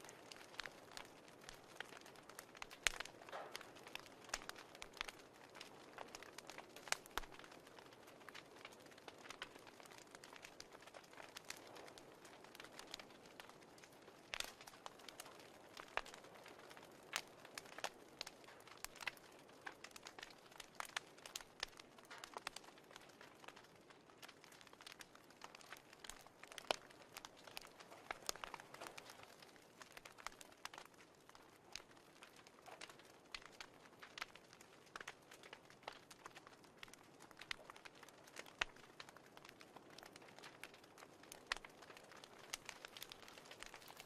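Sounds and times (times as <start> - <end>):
burning wood pops and snaps: 0.0 - 44.0
fireplace crackling: 0.0 - 44.0.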